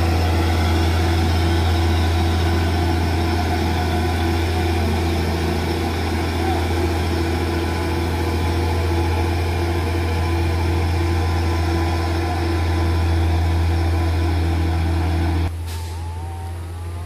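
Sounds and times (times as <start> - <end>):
truck diesel engine droning: 0.0 - 17.0.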